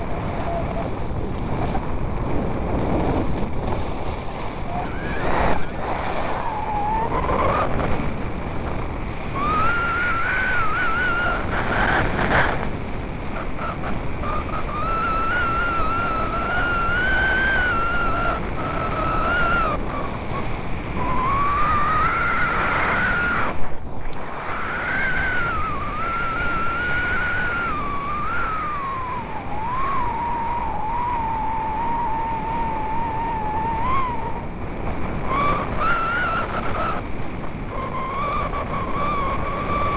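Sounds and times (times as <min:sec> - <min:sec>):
thin wavering whistle: 0:00.0 - 0:08.0, 0:09.0 - 0:12.6, 0:13.4 - 0:39.9
wind buffeting microphone: 0:00.0 - 0:39.9.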